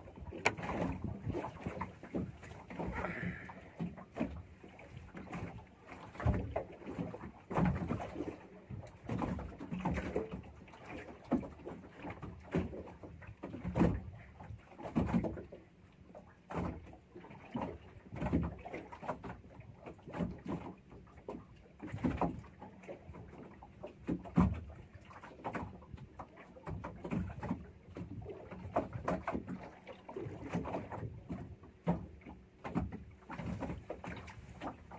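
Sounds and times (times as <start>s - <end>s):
water slapping boat hull: 0.0s - 34.9s.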